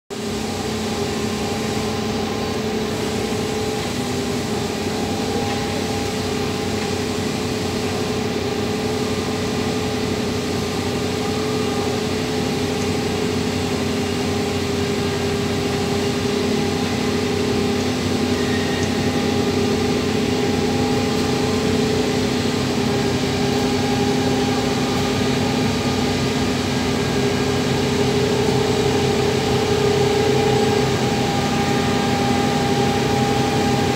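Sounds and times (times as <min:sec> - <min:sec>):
heavy transporter engine drone: 0:00.2 - 0:33.9.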